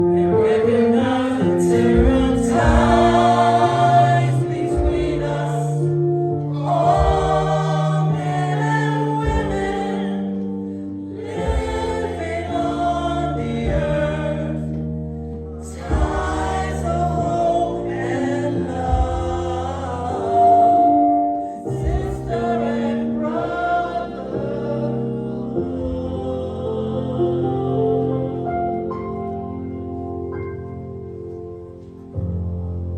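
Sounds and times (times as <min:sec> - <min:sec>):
choir singing gospel: 0:00.0 - 0:30.0.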